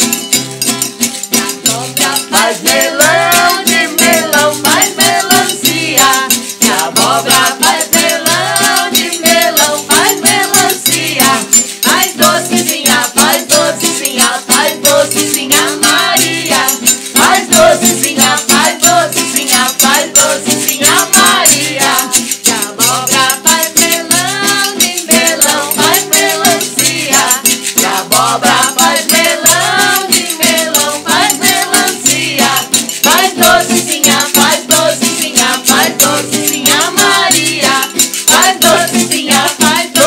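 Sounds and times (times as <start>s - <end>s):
strummed acoustic guitar: 0.0s - 40.0s
wooden shaker rattling: 0.0s - 40.0s
voices singing along: 1.4s - 40.0s.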